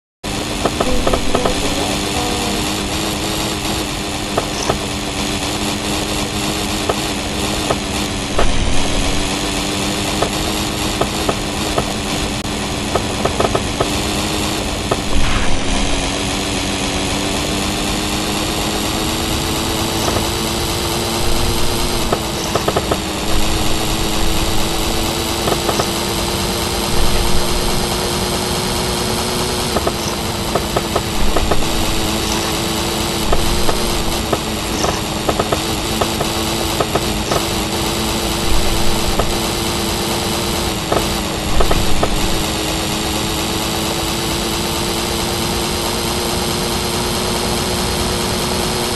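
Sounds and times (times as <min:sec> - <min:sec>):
two-stroke moped engine running: 0:00.3 - 0:48.9.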